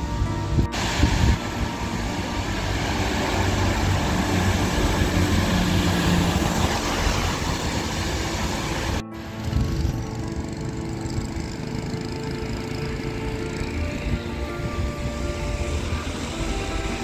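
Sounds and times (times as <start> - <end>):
car engines humming: 0.0 - 17.0
tyres hissing on wet road: 0.1 - 17.0.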